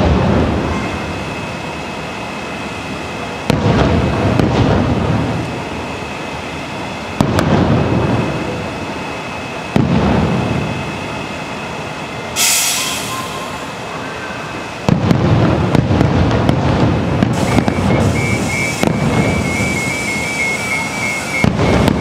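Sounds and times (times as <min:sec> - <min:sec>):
rolling rumble: 0:00.0 - 0:12.4, 0:13.4 - 0:22.0
fireworks booming: 0:00.0 - 0:22.0.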